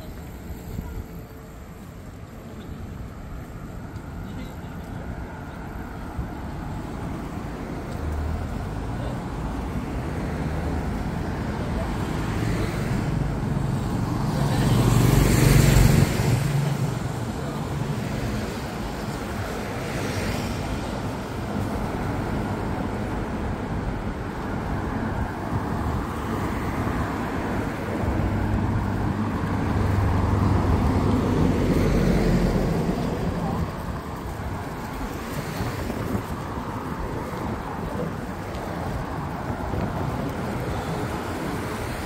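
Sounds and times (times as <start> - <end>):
steady road noise: 0.0 - 42.0.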